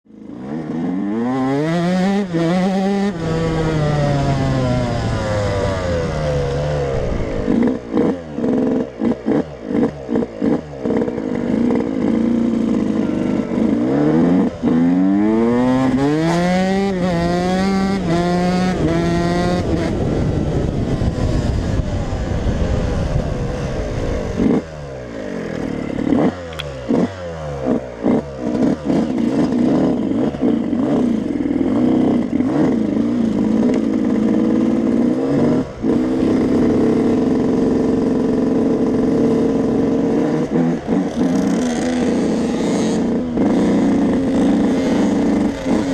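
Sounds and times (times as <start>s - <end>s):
motocross engine revving: 0.1s - 45.9s.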